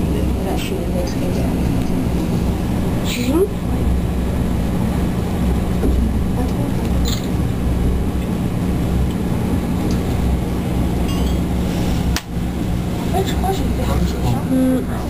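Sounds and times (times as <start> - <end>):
constant low hum: 0.0 - 15.0
low mechanical rumble: 0.0 - 15.0.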